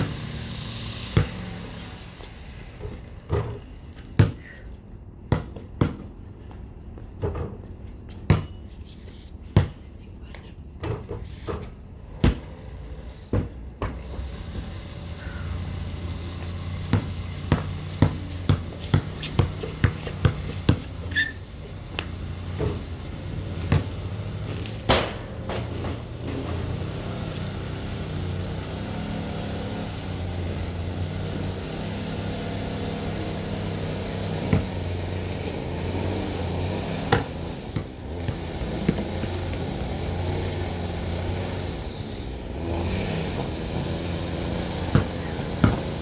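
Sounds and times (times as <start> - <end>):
engine running: 0.0 - 7.6, 11.4 - 46.0.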